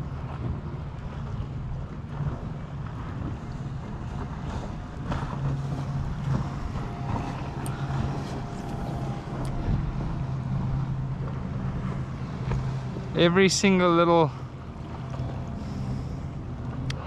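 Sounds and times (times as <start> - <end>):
wind on microphone: 0.0 - 13.8
boat engine humming: 0.0 - 17.0.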